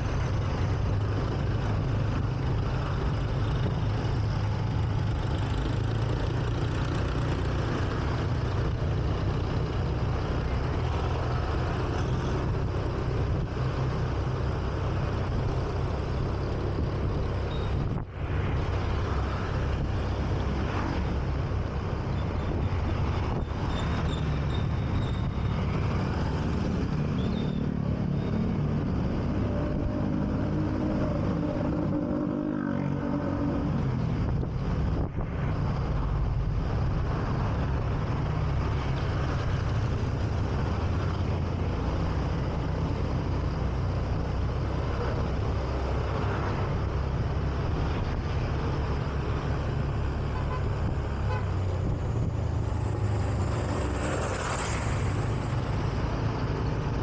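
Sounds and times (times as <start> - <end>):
motorbikes and cars passing: 0.0 - 57.0
road noise: 0.0 - 57.0.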